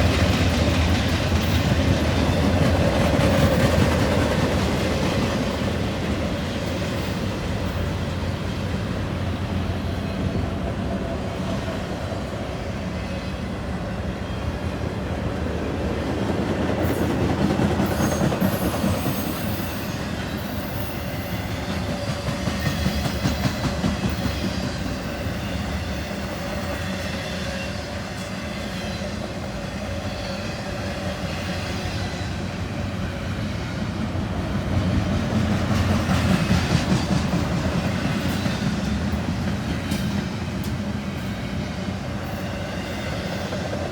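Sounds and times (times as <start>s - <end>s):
freight train rumbling past: 0.0s - 43.9s.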